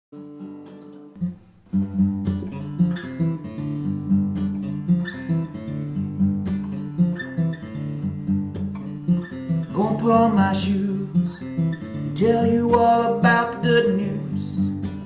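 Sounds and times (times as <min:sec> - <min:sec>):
acoustic guitar strumming: 0:00.2 - 0:15.0.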